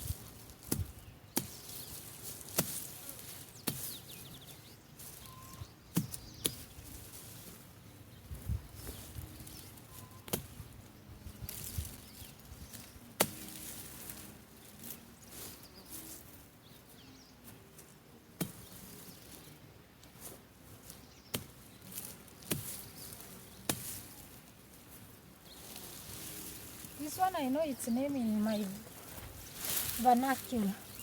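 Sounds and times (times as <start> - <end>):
dry vegetation rustling: 0.0 - 31.0.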